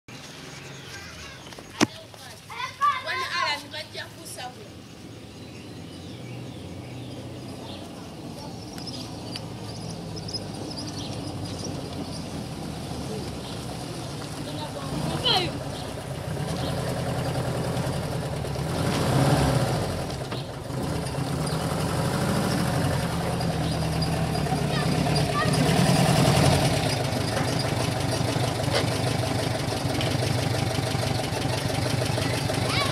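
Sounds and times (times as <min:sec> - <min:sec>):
car engine humming: 0:02.5 - 0:32.9.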